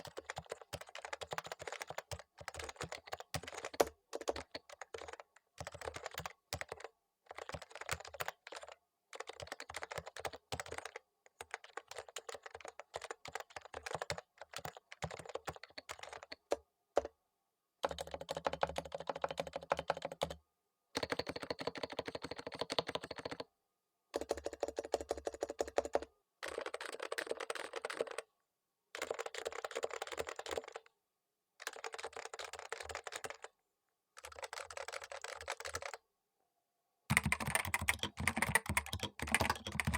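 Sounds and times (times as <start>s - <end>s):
typing on a keyboard: 0.0s - 17.2s, 17.8s - 20.4s, 21.0s - 23.5s, 24.2s - 28.3s, 29.0s - 30.9s, 31.6s - 33.5s, 34.2s - 36.0s, 37.1s - 39.9s.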